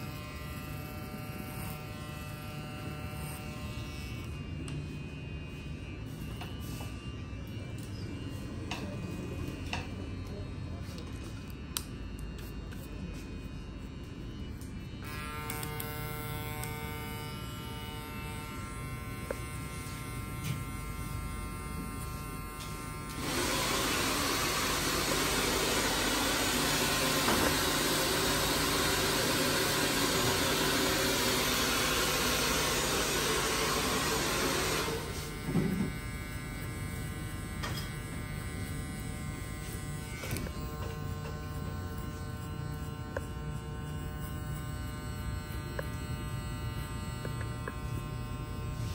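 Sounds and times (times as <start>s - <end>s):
electric hair clippers buzzing: 0.0s - 48.9s.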